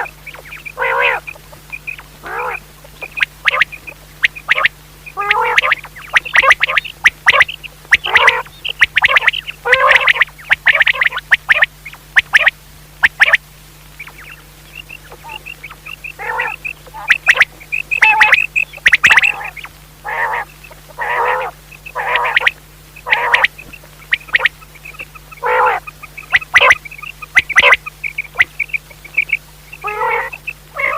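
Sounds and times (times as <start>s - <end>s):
quail raspy calls: 0.0s - 30.9s.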